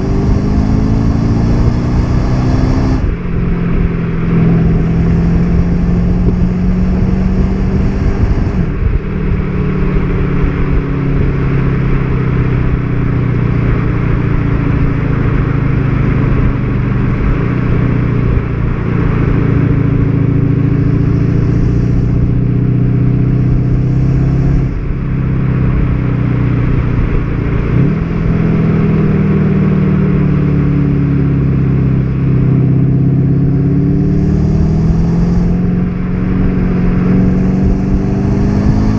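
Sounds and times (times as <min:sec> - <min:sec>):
diesel car engine pulling: 0:00.0 - 0:38.9
road noise: 0:00.0 - 0:38.9.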